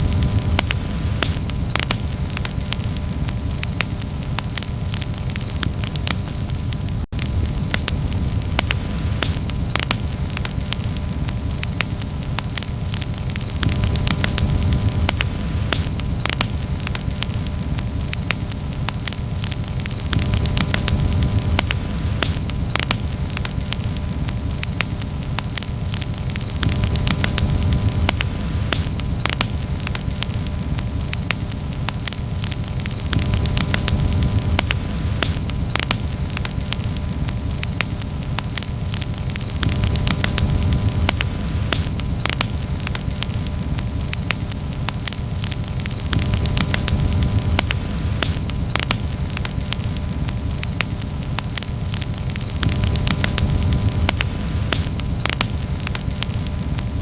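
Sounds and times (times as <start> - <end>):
campfire pops and snaps: 0.0 - 57.0
low rumble of burning fire: 0.0 - 57.0.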